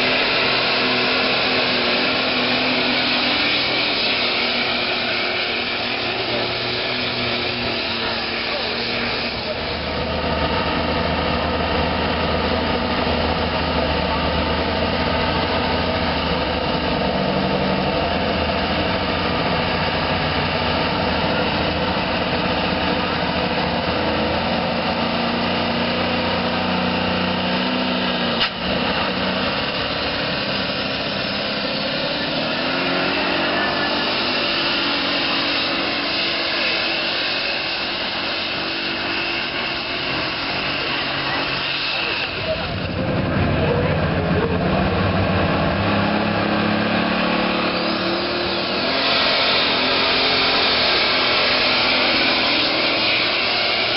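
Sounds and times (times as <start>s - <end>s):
diesel tractor engine whining: 0.0s - 53.9s.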